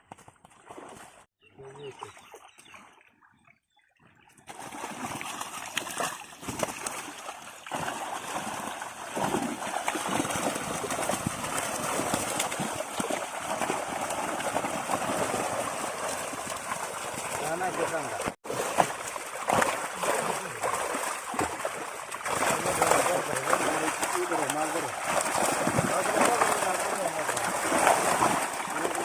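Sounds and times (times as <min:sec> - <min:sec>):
water splashing and churning: 0:00.1 - 0:29.0.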